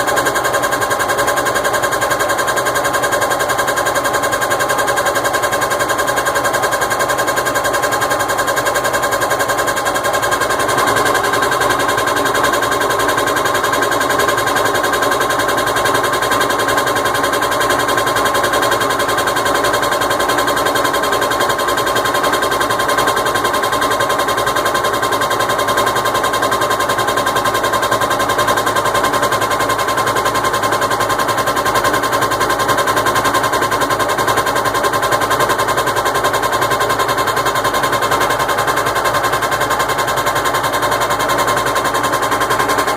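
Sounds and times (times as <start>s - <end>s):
washing machine whine: 0.0s - 42.9s.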